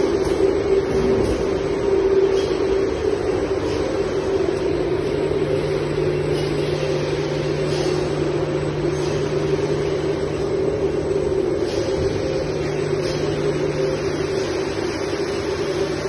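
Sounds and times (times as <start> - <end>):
low steady drone: 0.0 - 16.0
machinery hum and whir: 0.0 - 16.0.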